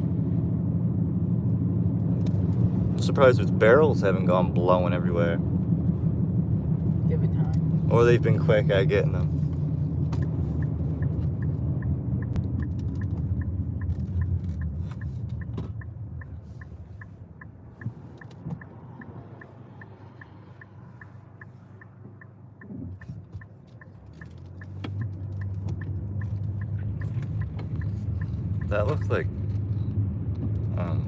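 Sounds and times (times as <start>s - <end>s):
road noise inside car: 0.0s - 31.0s
turn signal ticking: 1.4s - 31.0s.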